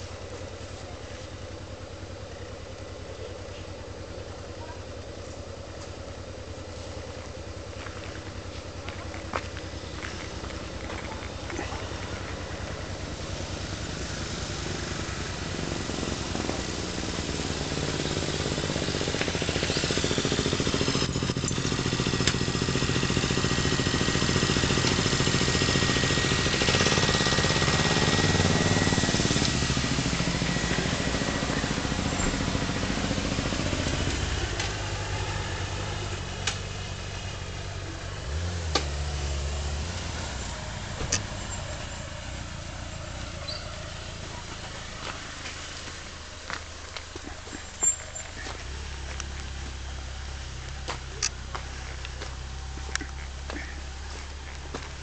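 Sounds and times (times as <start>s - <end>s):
vehicle engine passing by: 6.4s - 55.0s.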